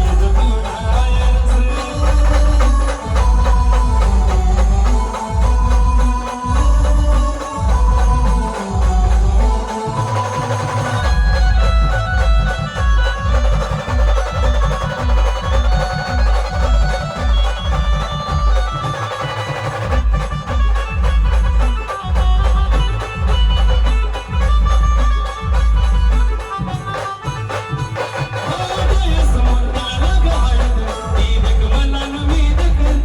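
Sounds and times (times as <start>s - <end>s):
heavy bass drum beat: 0.0s - 33.0s.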